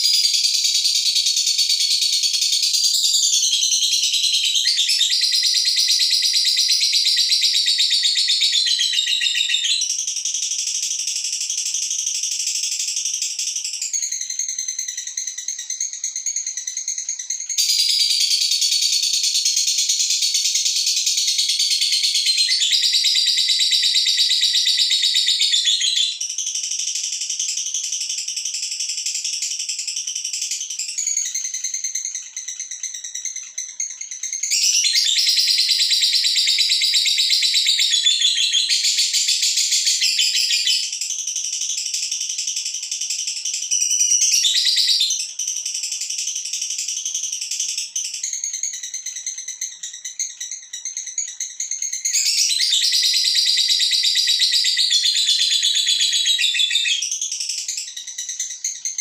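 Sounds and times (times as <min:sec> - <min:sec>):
lovebird chatter: 0:00.0 - 0:59.0.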